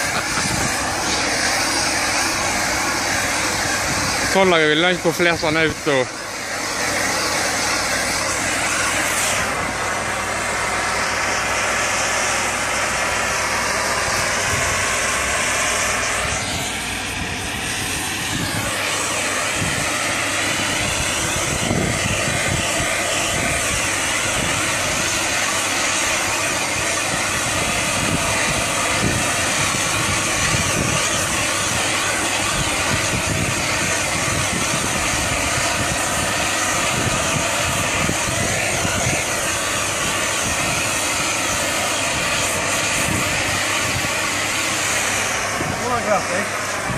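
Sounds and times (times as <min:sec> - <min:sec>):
cutting torch flame hissing: 0:00.0 - 0:46.9.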